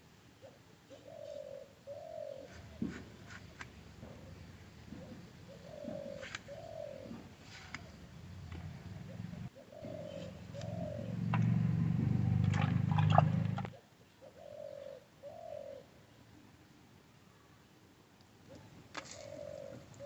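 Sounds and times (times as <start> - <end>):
dove cooing: 0.4 - 11.9, 12.5 - 16.2, 18.4 - 20.0.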